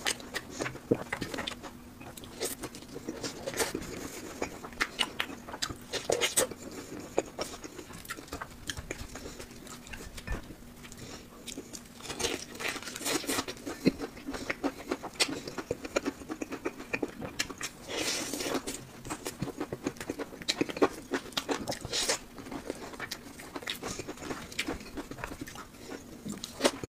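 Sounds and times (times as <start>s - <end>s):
crunchy chewing: 0.0s - 26.9s.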